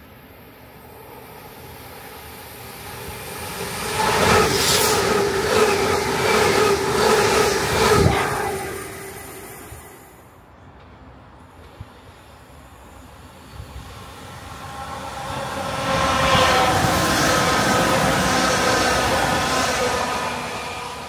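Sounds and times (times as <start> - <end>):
electric train passing: 0.0 - 21.0
train hum: 0.0 - 21.0.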